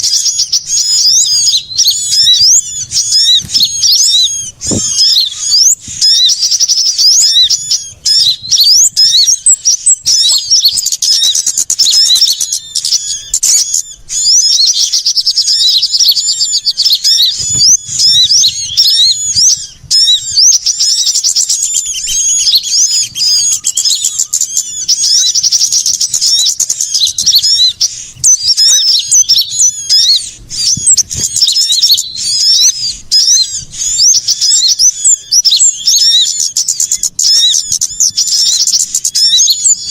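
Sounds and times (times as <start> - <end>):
many small birds chirping: 0.0 - 39.9.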